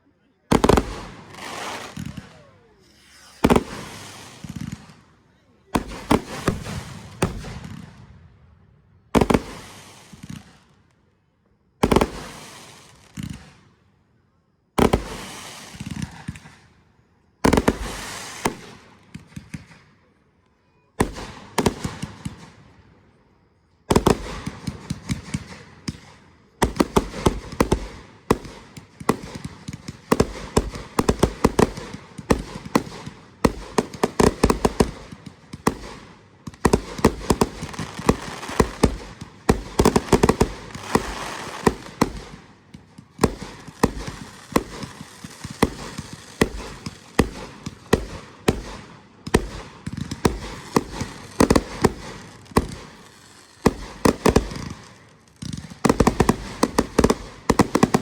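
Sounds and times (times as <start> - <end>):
fireworks bangs and crackling: 0.4 - 11.0, 11.8 - 13.8, 14.7 - 20.1, 21.0 - 23.0, 23.8 - 58.0.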